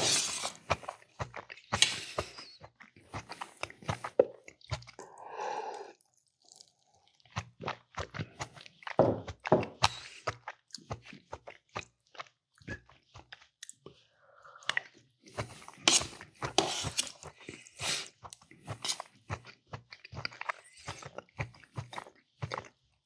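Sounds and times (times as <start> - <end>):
person chewing food: 0.0 - 14.0, 14.7 - 22.8.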